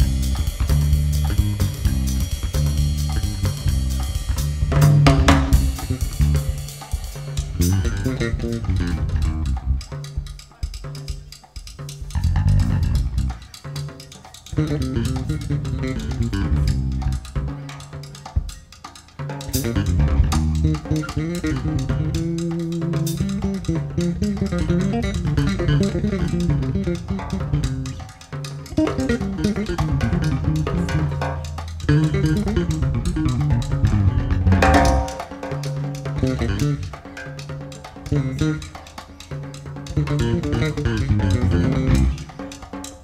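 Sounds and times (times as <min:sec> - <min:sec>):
drum kit: 0:00.0 - 0:43.0
electric bass jazz line: 0:00.0 - 0:43.0.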